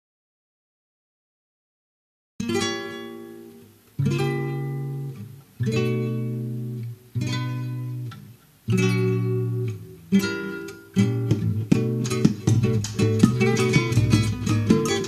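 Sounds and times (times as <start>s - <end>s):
acoustic guitar strumming chords: 2.4s - 15.0s.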